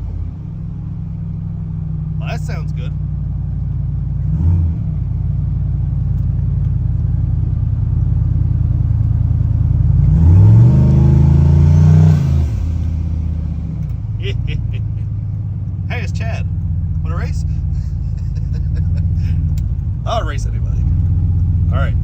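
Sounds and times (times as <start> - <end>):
car engine droning and revving: 0.0 - 22.0.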